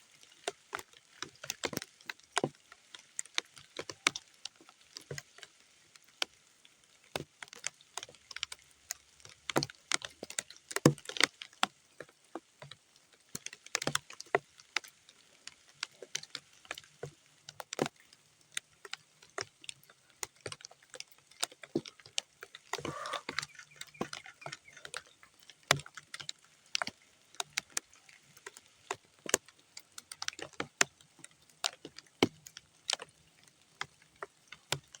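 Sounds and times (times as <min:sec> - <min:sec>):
rain dripping onto mud: 0:00.0 - 0:35.0.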